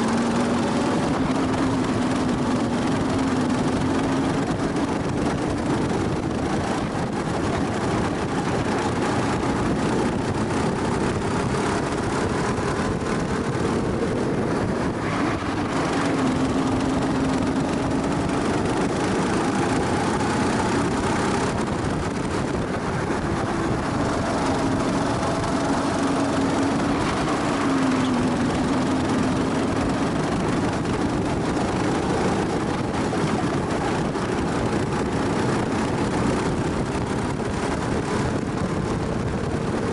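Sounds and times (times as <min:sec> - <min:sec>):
go-kart engine accelerating: 0:00.0 - 0:39.9
steady rush of noise: 0:00.0 - 0:39.9.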